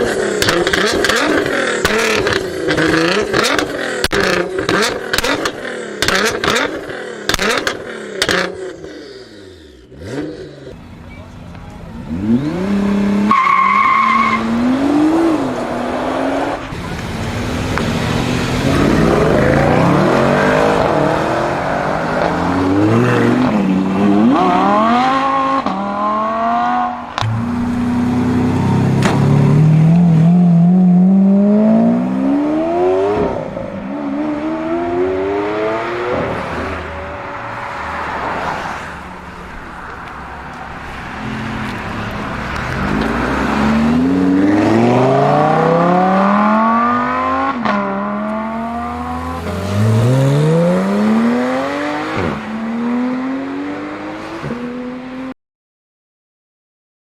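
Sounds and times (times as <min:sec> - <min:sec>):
car engines revving and accelerating: 0:00.0 - 0:55.4.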